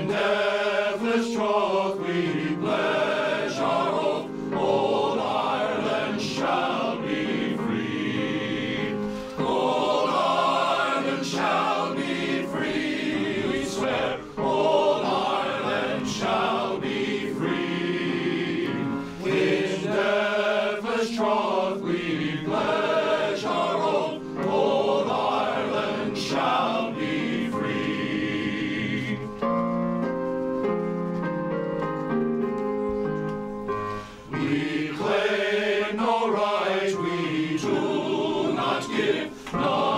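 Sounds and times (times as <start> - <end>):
men's choir singing in harmony: 0.0 - 29.6, 34.2 - 39.9
electronic keyboard: 0.0 - 39.9.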